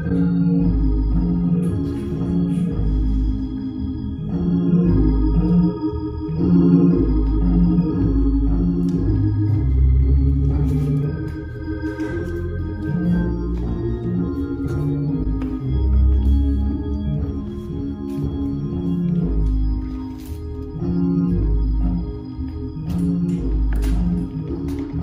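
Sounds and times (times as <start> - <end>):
church organ playing chords: 0.0 - 25.0.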